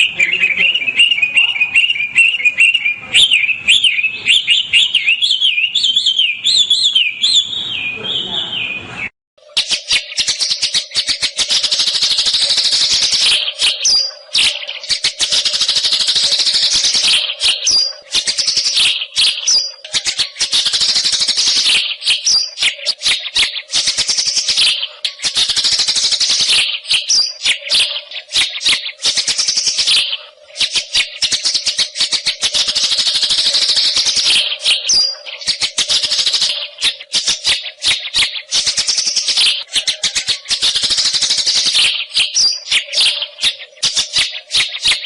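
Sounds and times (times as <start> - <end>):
bird singing trills and whistles: 0.0 - 45.0.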